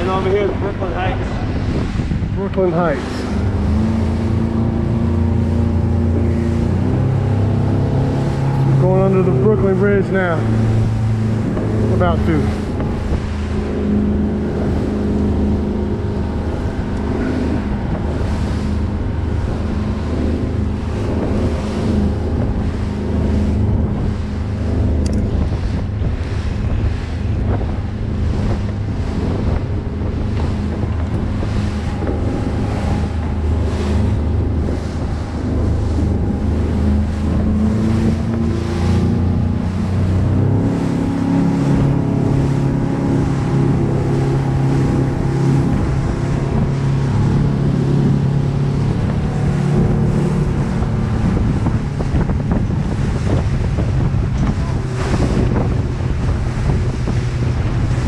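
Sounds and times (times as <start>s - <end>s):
hull rushing through water: 0.0s - 58.0s
motorboat engine drone: 0.0s - 58.0s
wind buffeting microphone: 0.0s - 58.0s.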